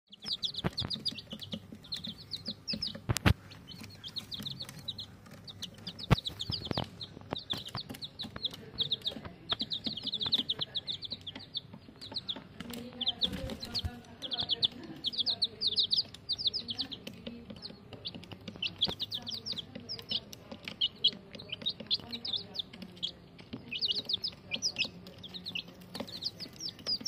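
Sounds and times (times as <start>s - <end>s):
chicks peeping: 0.1s - 27.0s.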